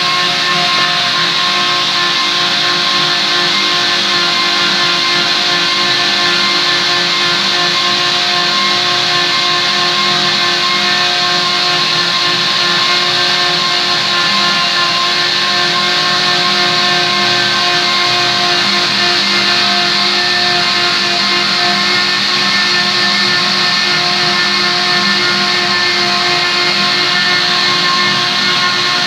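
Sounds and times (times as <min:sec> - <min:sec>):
router cutting wood whine: 0:00.0 - 0:29.0.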